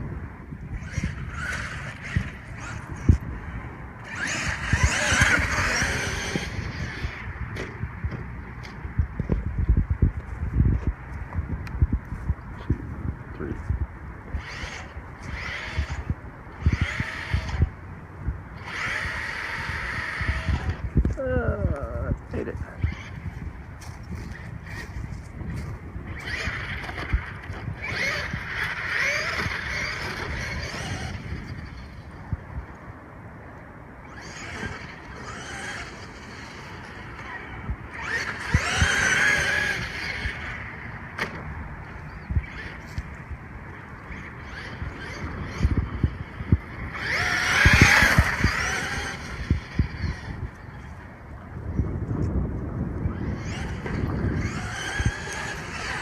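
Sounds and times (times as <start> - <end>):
electric motor whining: 0.6 - 8.2, 14.2 - 17.8, 18.6 - 32.5, 34.0 - 56.0.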